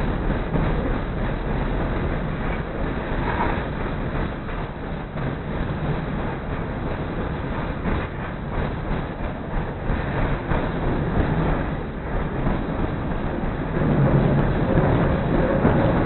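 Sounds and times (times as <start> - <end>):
train wheel and rail noise: 0.0 - 16.0.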